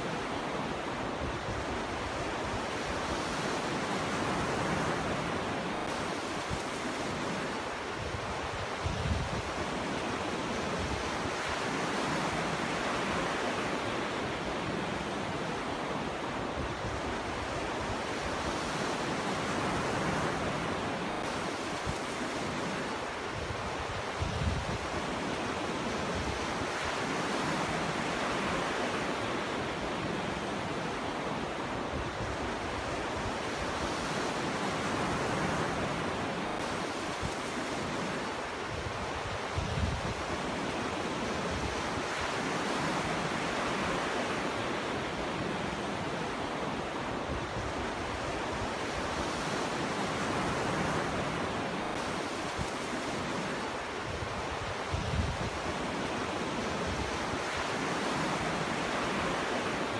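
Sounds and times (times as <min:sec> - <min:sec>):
ocean waves breaking on beach: 0:00.0 - 0:59.9
wind: 0:00.0 - 0:59.9.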